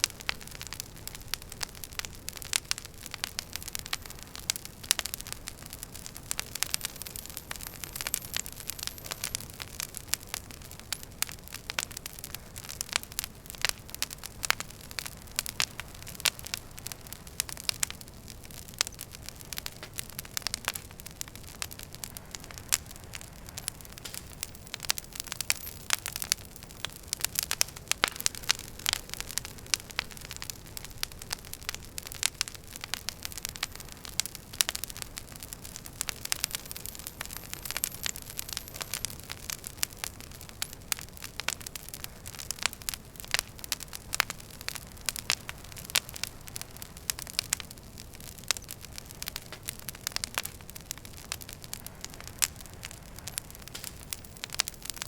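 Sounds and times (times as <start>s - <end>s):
soft hiss of flames: 0.0s - 55.0s
wood fire crackling and popping: 0.0s - 55.0s.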